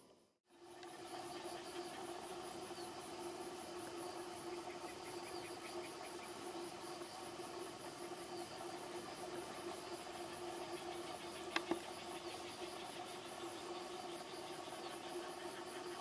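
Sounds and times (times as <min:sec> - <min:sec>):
insects chirping: 0:00.0 - 0:16.0
steady low hum: 0:00.0 - 0:16.0.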